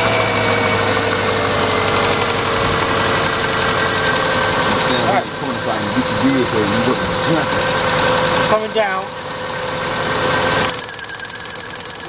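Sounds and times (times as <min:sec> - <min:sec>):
rough engine idling with misfire: 0:00.0 - 0:12.0.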